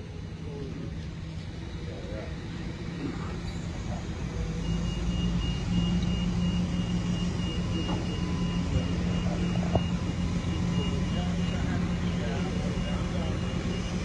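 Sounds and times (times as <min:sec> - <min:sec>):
crane engine droning: 0:00.0 - 0:14.0.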